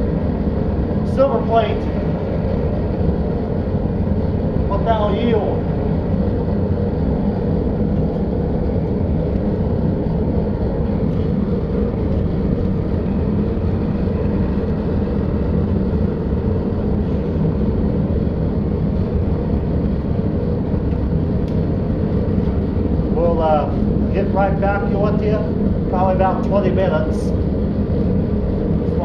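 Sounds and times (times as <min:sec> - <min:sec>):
furnace blower roaring: 0:00.0 - 0:29.0.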